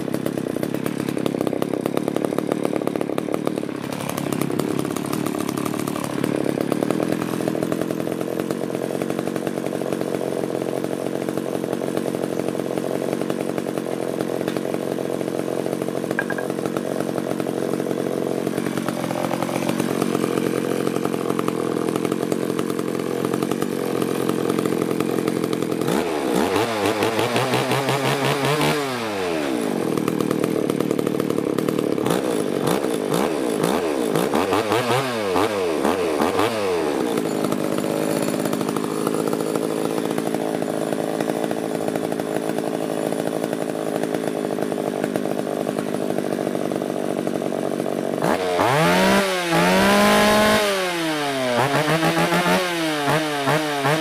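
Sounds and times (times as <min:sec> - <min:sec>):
chainsaw engine idling and revving: 0:00.0 - 0:54.0.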